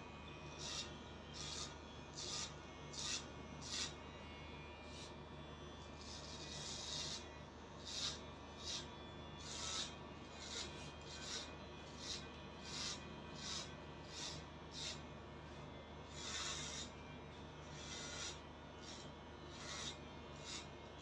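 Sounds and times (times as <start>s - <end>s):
clippers rasping through hair: 0.0s - 4.1s, 4.9s - 15.1s, 16.1s - 21.0s
electric hair clippers humming: 0.0s - 21.0s.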